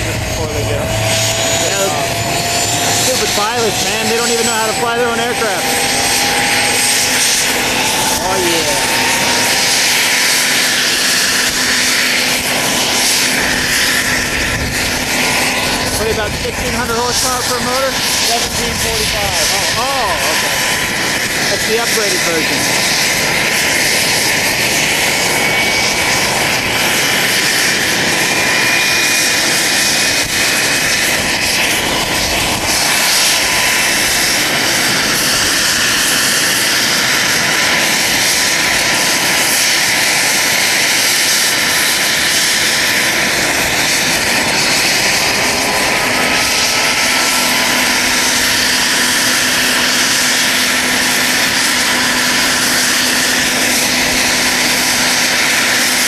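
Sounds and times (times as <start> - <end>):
helicopter engines and rotor roar: 0.0 - 56.0.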